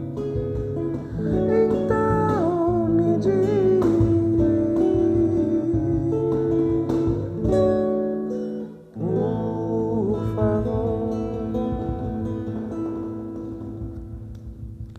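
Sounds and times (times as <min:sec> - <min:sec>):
acoustic guitar ballad: 0:00.0 - 0:14.9.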